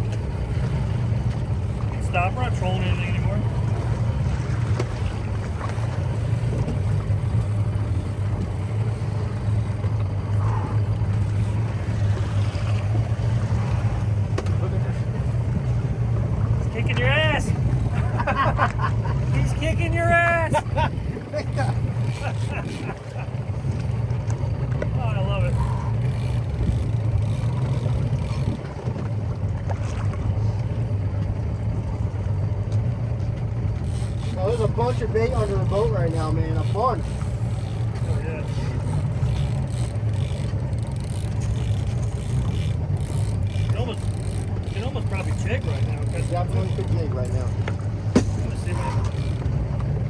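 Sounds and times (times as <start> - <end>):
boat motor humming: 0.0 - 50.0
water noise: 0.0 - 50.0.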